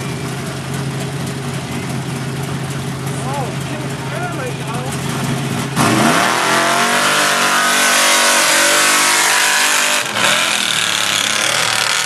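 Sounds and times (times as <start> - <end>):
truck engine at full throttle: 0.0 - 12.0.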